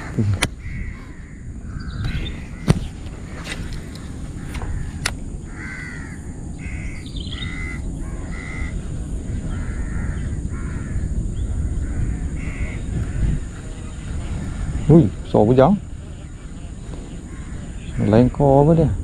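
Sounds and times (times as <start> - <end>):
bird calling: 0.0 - 19.0.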